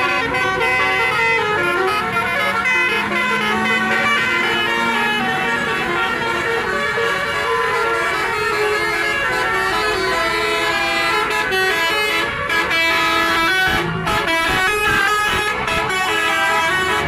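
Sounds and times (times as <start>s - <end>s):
multi-tone musical air horns: 0.0s - 17.0s
traffic noise: 0.0s - 17.0s.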